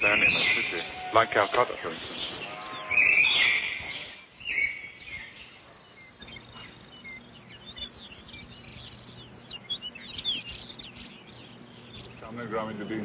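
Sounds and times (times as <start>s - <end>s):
birds chirping: 0.0s - 13.0s
faint low hum: 0.0s - 13.0s.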